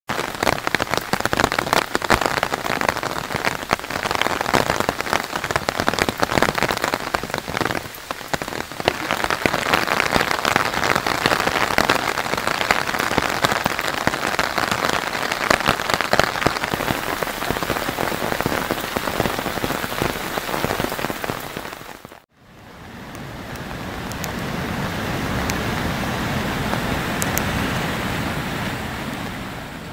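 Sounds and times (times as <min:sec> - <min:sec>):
heavy rain pouring on foliage: 0:00.1 - 0:29.9
river rushing in flood: 0:00.2 - 0:29.9.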